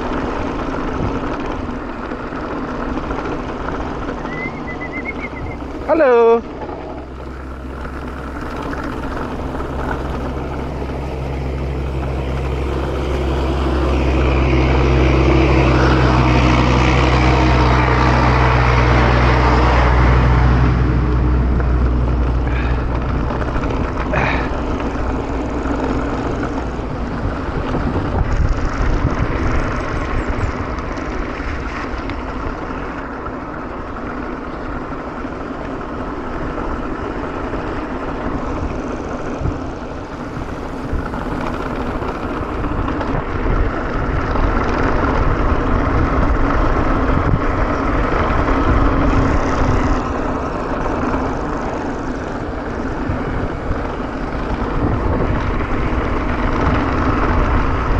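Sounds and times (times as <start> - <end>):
bike tyres rolling on concrete: 0.0 - 57.9
wind rushing over microphone: 0.0 - 57.9.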